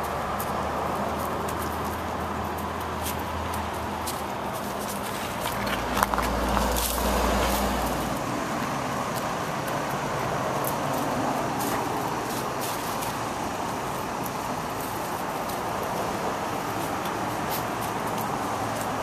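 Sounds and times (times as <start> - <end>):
distant road traffic hiss: 0.0 - 19.0.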